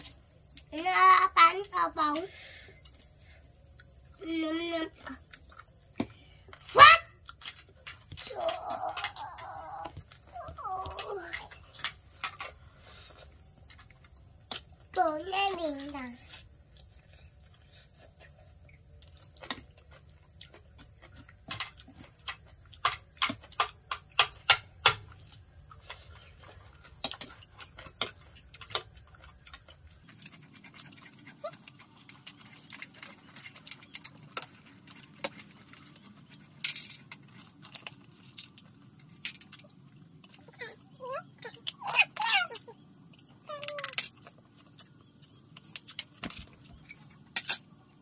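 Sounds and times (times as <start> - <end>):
chewing crunches: 4.9 - 15.0, 15.8 - 40.5, 41.3 - 48.0.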